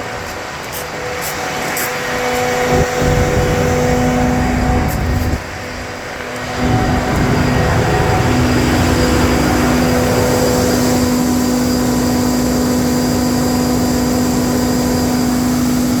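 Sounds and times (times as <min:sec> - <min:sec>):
constant hum: 0:00.0 - 0:16.0
diesel generator engine running: 0:00.0 - 0:16.0.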